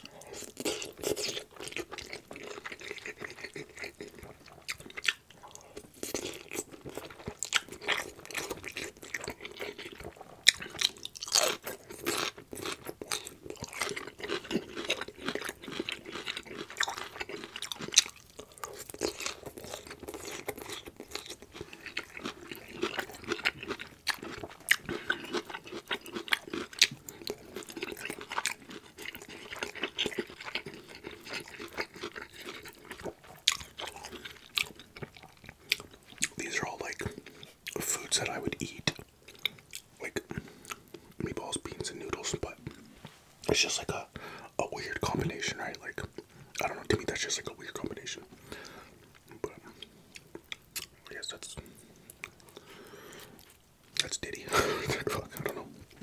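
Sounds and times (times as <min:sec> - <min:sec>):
close chewing and mouth smacks: 0:00.0 - 0:56.0.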